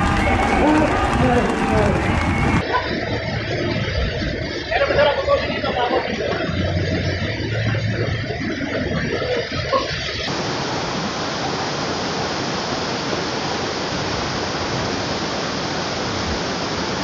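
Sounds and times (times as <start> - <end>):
waterfall rushing: 0.0 - 3.8, 4.4 - 17.0.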